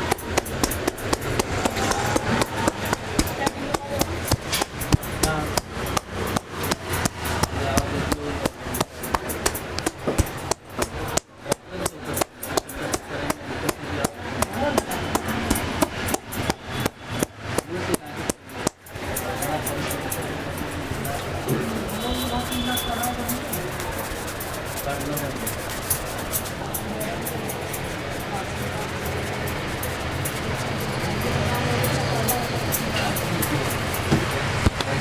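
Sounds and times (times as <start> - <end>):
hands slapping during head massage: 0.0 - 35.0.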